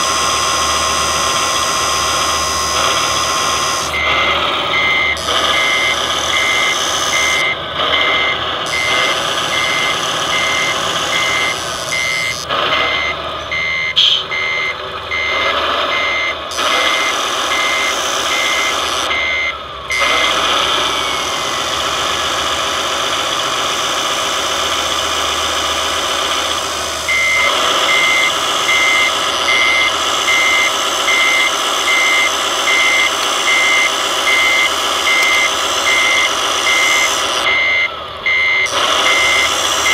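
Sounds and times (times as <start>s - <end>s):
back-up warning beeper: 0.0s - 21.8s, 26.7s - 39.9s
toy truck hydraulics running: 0.0s - 39.9s.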